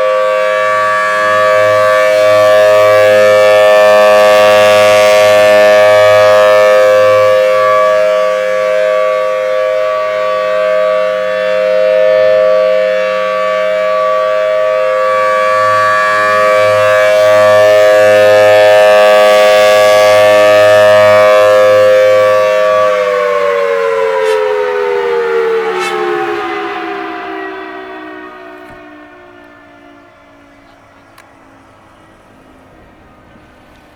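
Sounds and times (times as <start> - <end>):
outdoor warning siren: 0.0 - 33.9.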